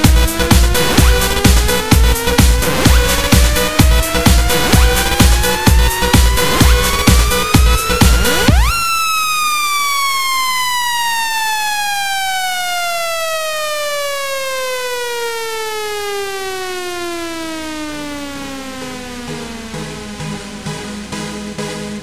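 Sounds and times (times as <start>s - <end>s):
electronic dance beat: 0.0s - 16.0s, 16.6s - 22.0s
synthesized tone sliding downward: 0.0s - 22.0s.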